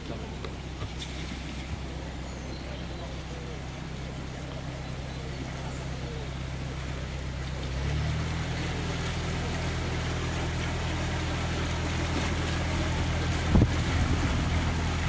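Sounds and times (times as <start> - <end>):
diesel engine low throb: 0.0 - 15.0.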